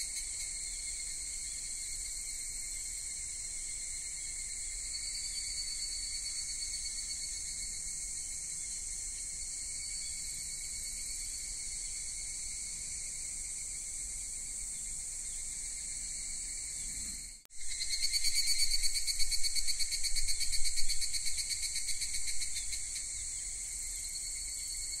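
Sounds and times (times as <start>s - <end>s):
fast pulsing insect trill: 0.0s - 25.0s
insects chirping chorus: 0.0s - 25.0s.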